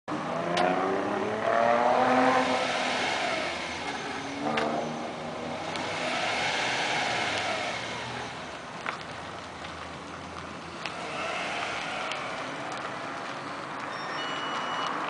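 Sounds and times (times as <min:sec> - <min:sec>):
car engine revving: 0:00.1 - 0:13.8.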